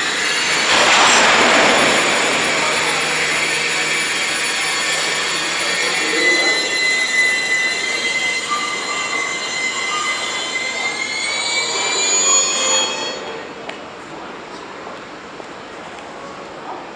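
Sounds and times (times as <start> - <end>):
train brakes squealing: 0.0 - 13.9.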